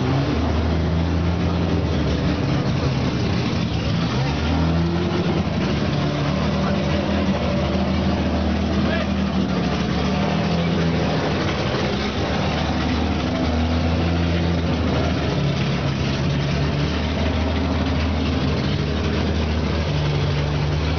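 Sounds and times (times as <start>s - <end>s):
racing car engine idling: 0.0s - 20.9s.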